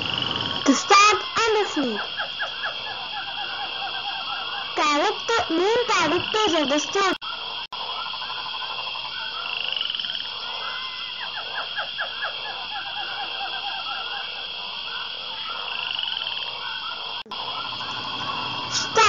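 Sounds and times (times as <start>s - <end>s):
frogs croaking: 0.0s - 19.0s.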